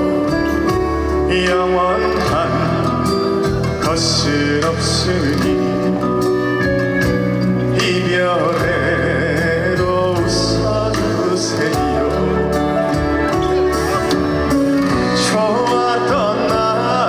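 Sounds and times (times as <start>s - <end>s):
trot music from a live stage: 0.0s - 17.0s.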